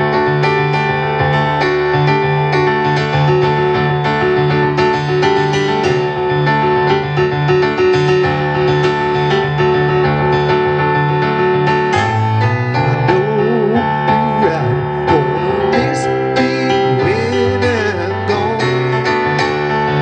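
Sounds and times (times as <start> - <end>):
electric keyboard playing: 0.0 - 20.0.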